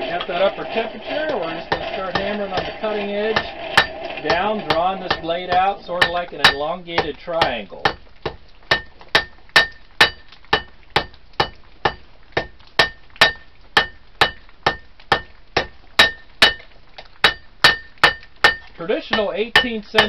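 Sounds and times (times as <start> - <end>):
hammer striking steel on anvil: 0.1 - 6.6, 8.7 - 16.6, 17.2 - 20.0.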